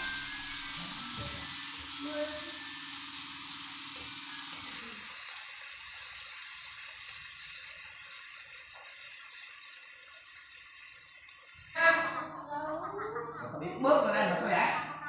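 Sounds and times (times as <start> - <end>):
food sizzling in a frying pan: 0.0 - 12.3.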